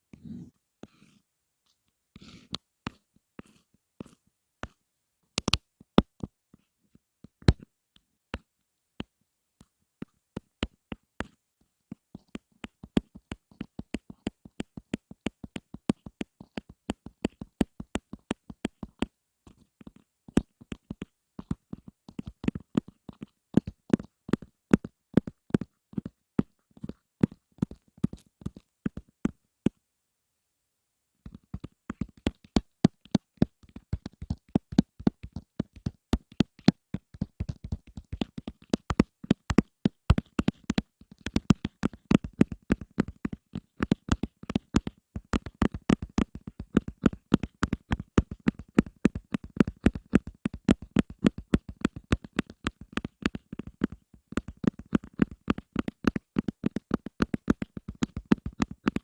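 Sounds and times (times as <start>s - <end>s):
fingertip tapping near microphone: 10.0s - 29.8s, 31.3s - 59.0s.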